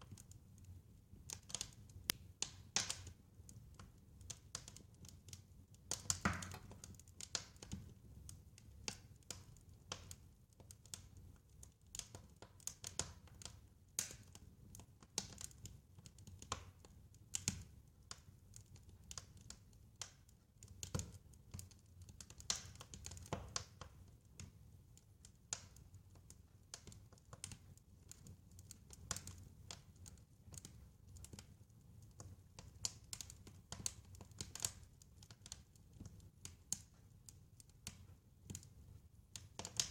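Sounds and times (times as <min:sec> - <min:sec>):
sharp pops and snaps: 0:00.0 - 0:39.9
wood fire crackling: 0:00.0 - 0:39.9.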